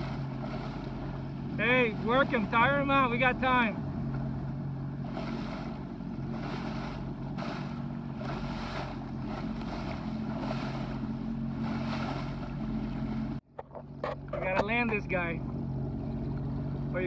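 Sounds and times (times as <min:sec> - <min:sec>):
water splashing against hull: 0:00.0 - 0:17.0
watercraft engine humming: 0:00.0 - 0:17.0.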